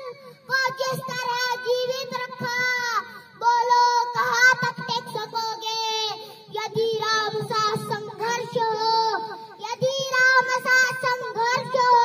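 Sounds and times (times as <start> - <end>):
girl chanting into microphone: 0.0 - 12.0.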